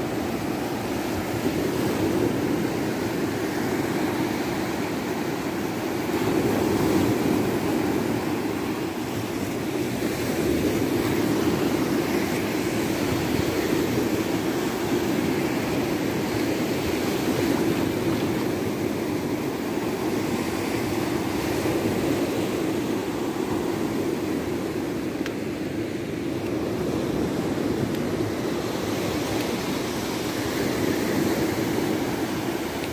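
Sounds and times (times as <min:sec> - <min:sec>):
surf washing up sand: 0:00.0 - 0:32.9.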